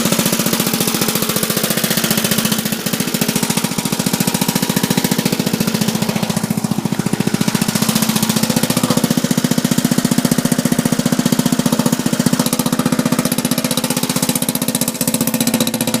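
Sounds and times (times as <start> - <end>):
riding lawn mower engine chugging: 0.0 - 16.0.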